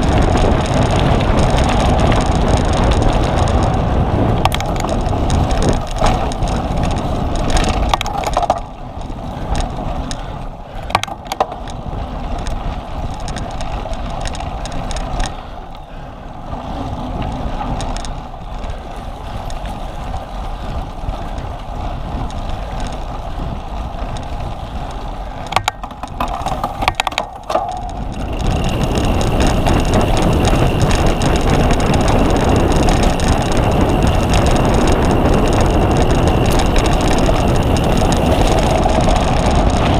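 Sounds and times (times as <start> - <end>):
bike rattles and clicks: 0.0 - 39.9
tyre and wind rush: 0.0 - 39.9.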